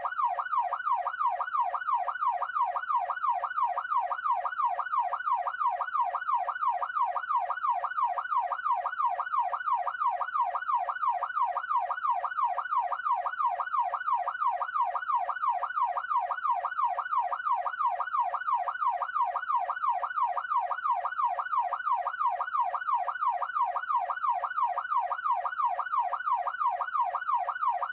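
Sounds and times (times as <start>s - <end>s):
police siren yelping: 0.0s - 27.9s.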